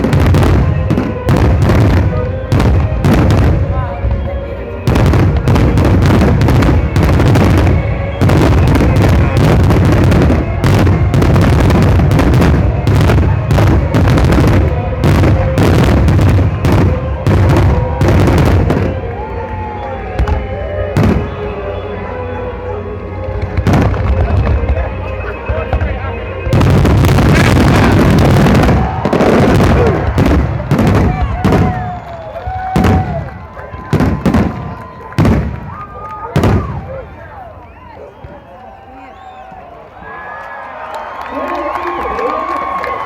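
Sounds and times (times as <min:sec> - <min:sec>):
fireworks explosions: 0:00.0 - 0:39.5.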